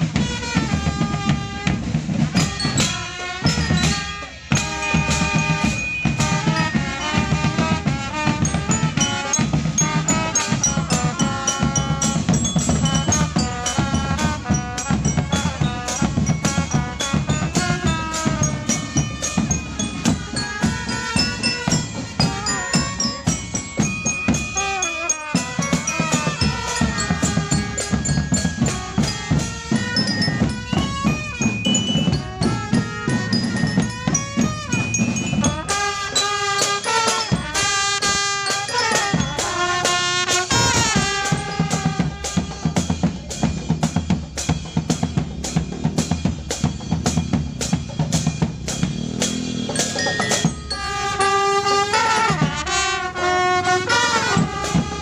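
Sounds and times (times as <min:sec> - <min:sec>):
bass drums: 0:00.0 - 0:38.2, 0:39.0 - 0:55.0
cymbals clashing: 0:00.0 - 0:55.0
snare drums: 0:00.0 - 0:55.0
mallet bells melody: 0:00.1 - 0:55.0.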